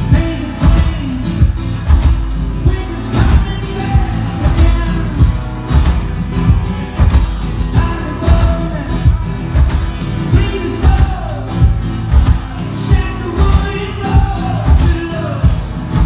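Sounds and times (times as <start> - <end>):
man singing: 0.0 - 5.5, 6.5 - 16.0
tambourine jingling: 0.0 - 5.6, 7.2 - 8.8, 9.6 - 15.9
strummed acoustic guitar: 0.0 - 16.0
thumping beat: 0.0 - 16.0.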